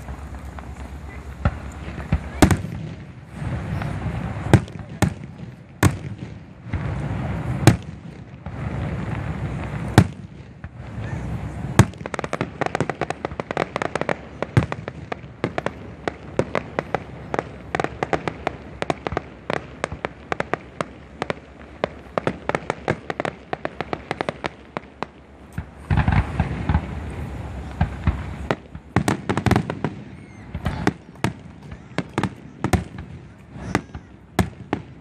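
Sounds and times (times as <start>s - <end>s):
firework crackle: 0.0s - 35.0s.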